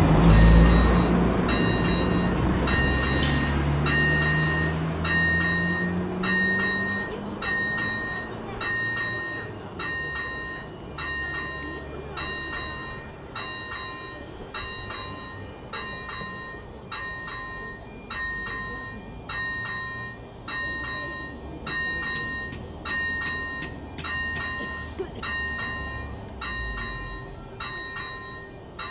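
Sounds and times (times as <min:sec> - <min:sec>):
level crossing warning bell: 0:00.0 - 0:28.9.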